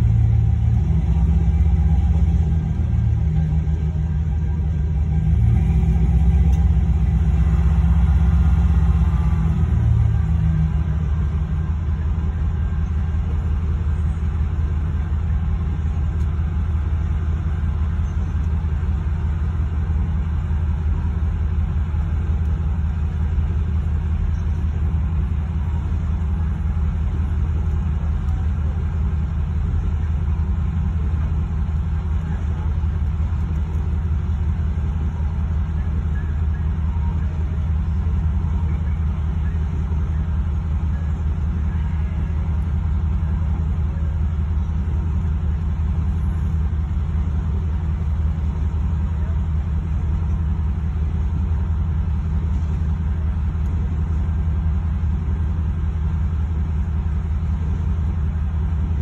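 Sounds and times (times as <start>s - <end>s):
train cars rolling rumble: 0.0s - 59.0s.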